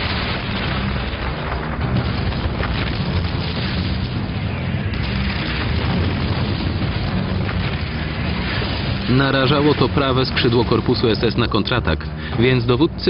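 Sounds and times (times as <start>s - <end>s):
rumbling explosions: 0.0s - 13.0s.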